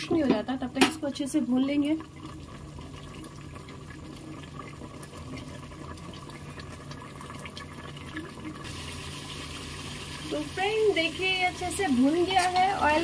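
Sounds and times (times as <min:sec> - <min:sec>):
curry bubbling and simmering: 0:00.0 - 0:13.0
curry sizzling in oil: 0:00.0 - 0:13.0.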